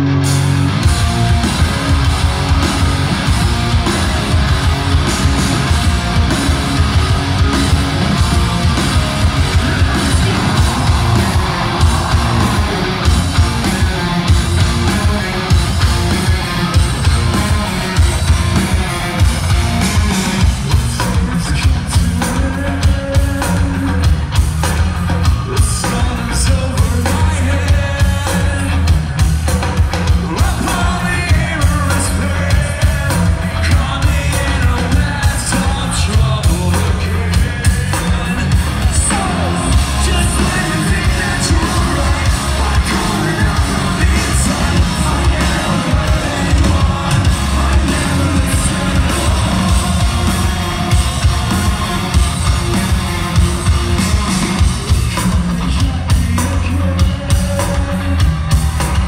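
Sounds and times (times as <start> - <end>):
distorted electric guitars: 0.0 - 59.0
pounding drum kit: 0.0 - 59.0
person singing: 3.8 - 59.0.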